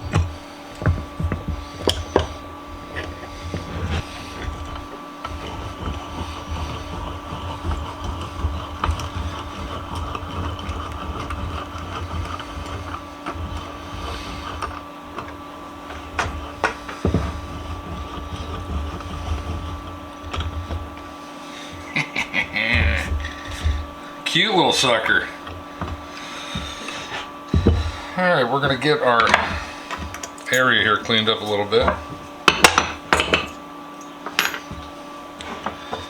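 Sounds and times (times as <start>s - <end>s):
vise screw rough rumble: 0.0s - 36.0s.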